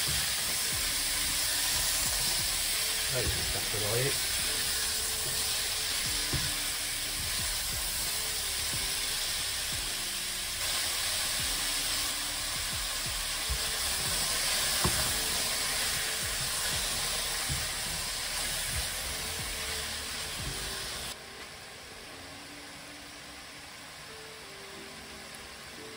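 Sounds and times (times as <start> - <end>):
vegetables sizzling in hot oil: 0.0 - 21.2.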